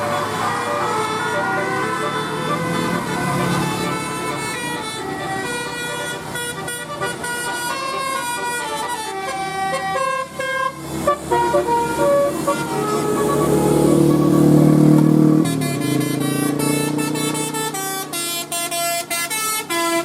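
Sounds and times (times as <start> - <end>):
bus horn playing a melody: 0.0 - 20.0.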